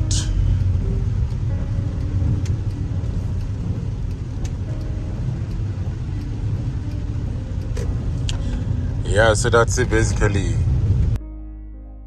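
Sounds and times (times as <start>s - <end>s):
faint ticks: 0.0s - 10.2s
car engine and road rumble: 0.0s - 11.2s.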